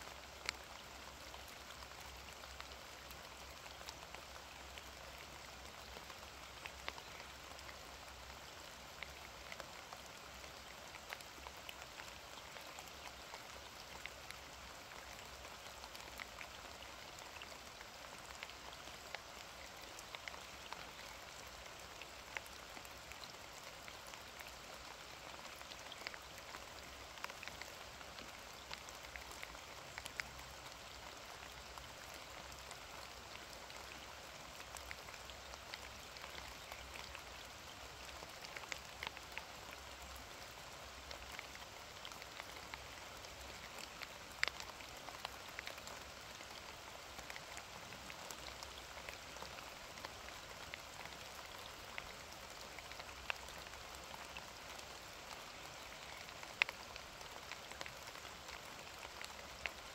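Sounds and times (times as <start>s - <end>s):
raindrops ticking: 0.0s - 59.9s
steady rain: 0.0s - 59.9s.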